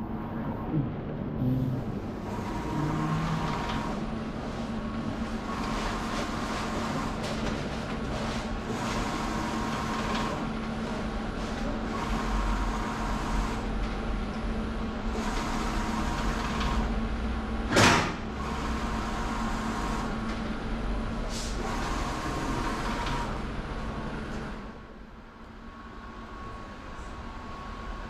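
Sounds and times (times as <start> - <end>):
printer carriage whirring: 0.0 - 28.0
printer machine hum: 0.0 - 28.0.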